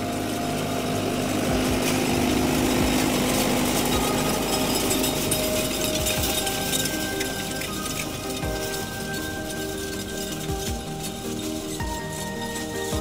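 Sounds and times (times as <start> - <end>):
seed drill metal rattling: 0.0 - 13.0
tractor diesel engine running: 0.0 - 13.0.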